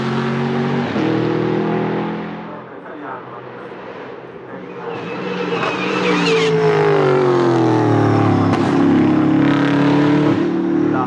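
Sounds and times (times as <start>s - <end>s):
car engine revs falling: 0.0s - 2.6s, 3.5s - 11.0s.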